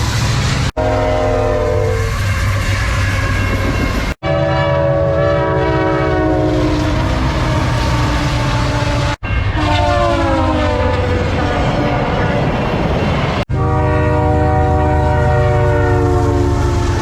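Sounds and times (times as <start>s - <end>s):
locomotive and wheels rumbling: 0.0s - 17.0s
train air horn chord: 0.7s - 11.5s, 13.5s - 17.0s.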